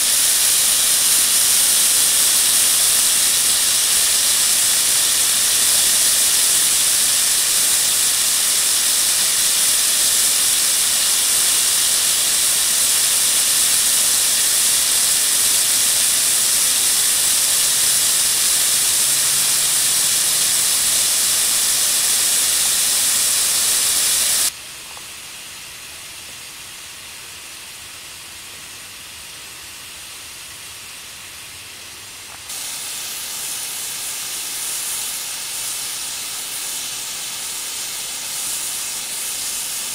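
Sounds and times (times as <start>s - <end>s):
snow gun hissing: 0.0s - 39.9s.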